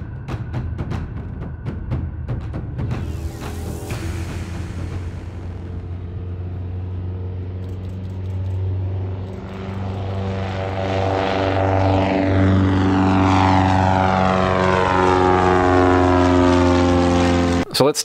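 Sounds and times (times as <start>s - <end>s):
propeller plane engine at takeoff: 0.0s - 18.0s.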